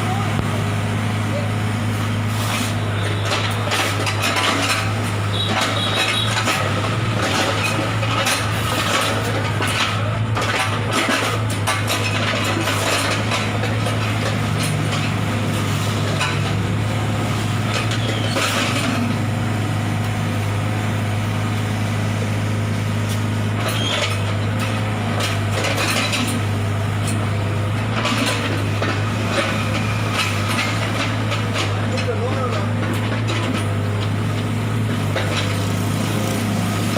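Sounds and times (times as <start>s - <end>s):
machinery engine drone: 0.0s - 36.9s.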